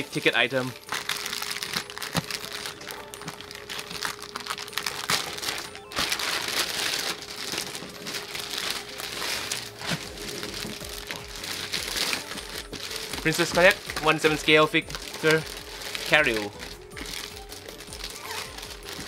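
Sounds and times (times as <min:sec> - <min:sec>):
plastic wrapping crinkling: 0:00.2 - 0:19.0.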